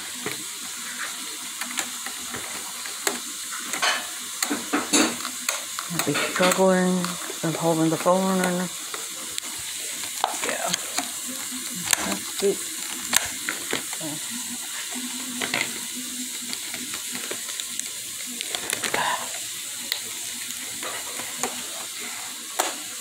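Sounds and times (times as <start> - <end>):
steady hiss: 0.0 - 23.0
plastic packaging crinkling: 4.6 - 23.0.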